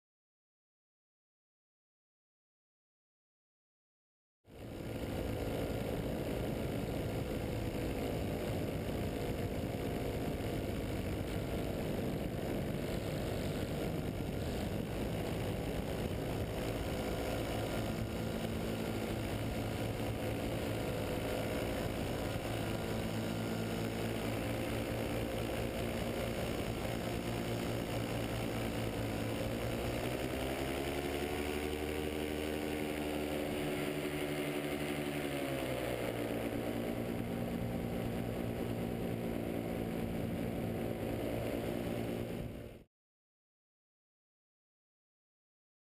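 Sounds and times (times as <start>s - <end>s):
paramotor engine and propeller: 4.5s - 42.9s.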